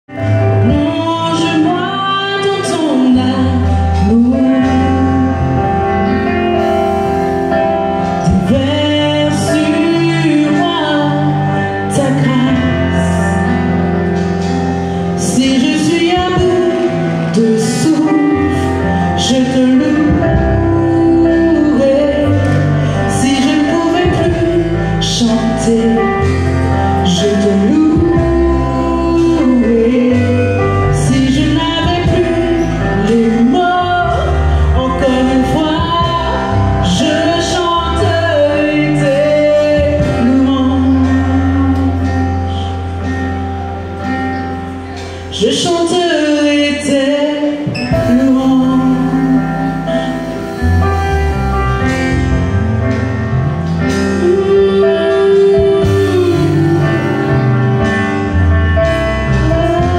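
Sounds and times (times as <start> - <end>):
instrumental accompaniment: 0.1 - 59.9
woman singing worship song: 0.5 - 5.8, 8.2 - 13.9, 15.1 - 43.0, 45.3 - 50.6, 53.8 - 58.0, 59.3 - 59.9.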